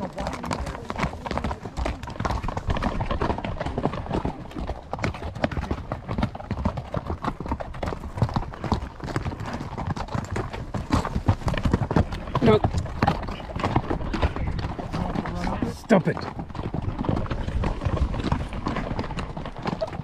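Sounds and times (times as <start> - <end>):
horse hooves clip-clopping: 0.0 - 20.0.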